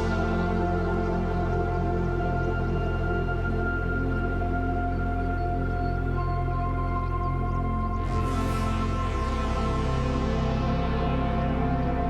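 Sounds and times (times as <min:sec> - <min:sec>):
ambient music with held notes: 0:00.0 - 0:12.0.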